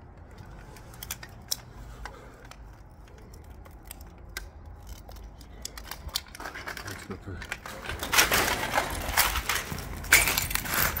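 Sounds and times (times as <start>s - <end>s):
faint clicks and crunches: 0.1s - 11.0s.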